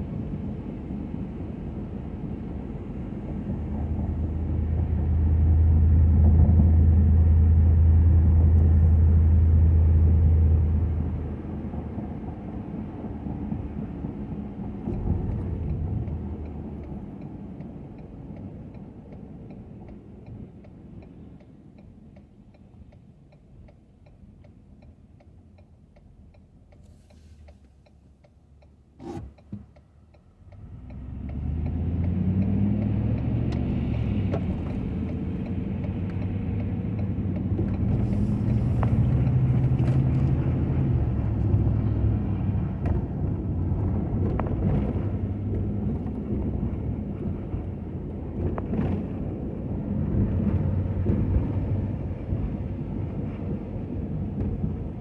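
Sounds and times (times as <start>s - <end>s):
truck engine idling and accelerating: 0.0s - 55.0s.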